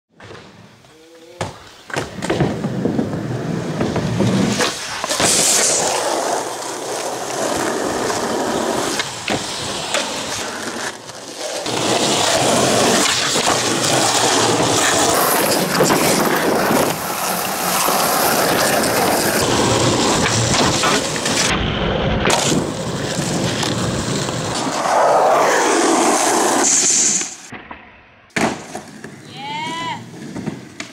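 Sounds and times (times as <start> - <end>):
skateboard wheels rolling on asphalt: 0.1 - 27.6, 28.3 - 30.9
skateboard popping and landing: 0.1 - 30.9.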